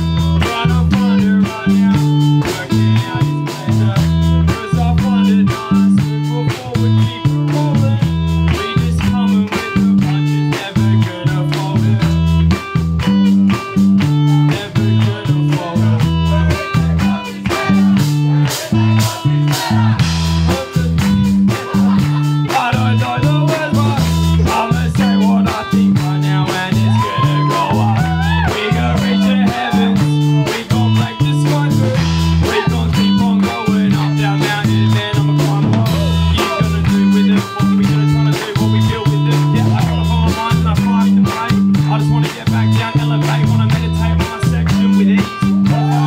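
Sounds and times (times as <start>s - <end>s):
bass guitar: 0.0s - 46.0s
drum kit beat: 0.0s - 46.0s
electric guitar: 0.0s - 46.0s.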